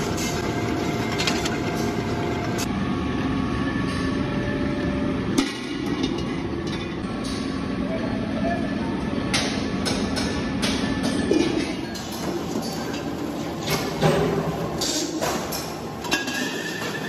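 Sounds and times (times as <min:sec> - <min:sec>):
metalworking machinery din: 0:00.0 - 0:17.0.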